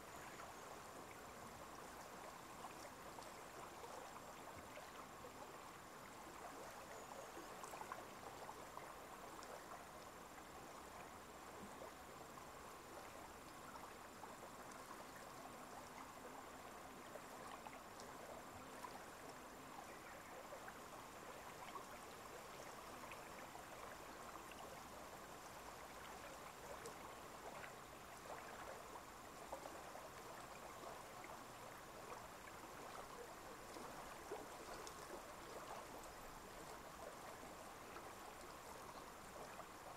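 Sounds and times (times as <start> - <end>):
trickle of running water: 0.0 - 39.9.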